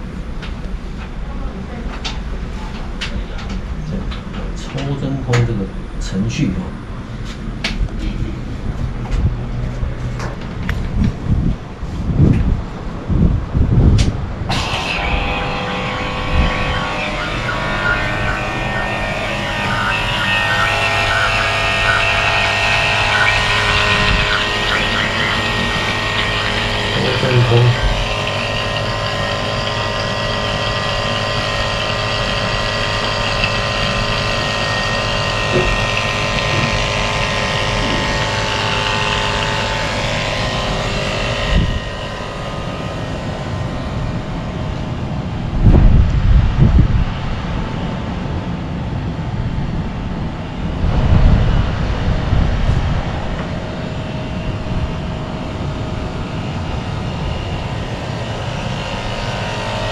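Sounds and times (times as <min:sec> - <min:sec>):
loud low rumbles: 0:00.0 - 0:59.9
vacuum pump motor whine: 0:00.0 - 0:59.9.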